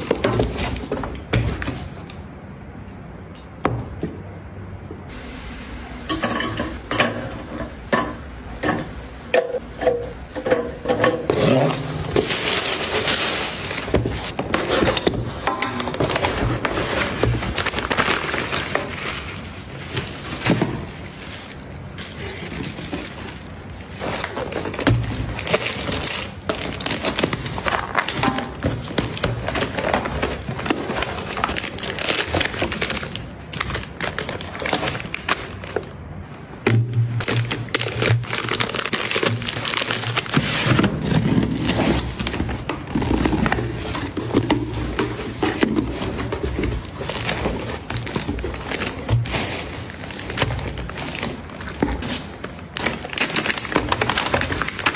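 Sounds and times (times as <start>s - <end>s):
plastic packaging rustling: 0.0s - 2.3s, 11.2s - 36.3s, 37.2s - 54.9s.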